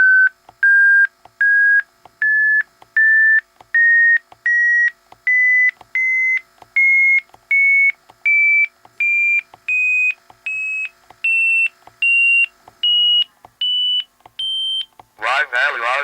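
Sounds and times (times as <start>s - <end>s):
rising calculator beeps: 0.0s - 14.9s.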